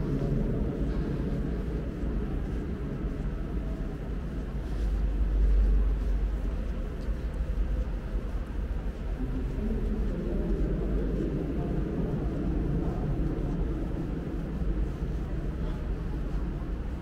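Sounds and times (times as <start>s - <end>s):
low rumbling ambience: 0.0s - 17.0s.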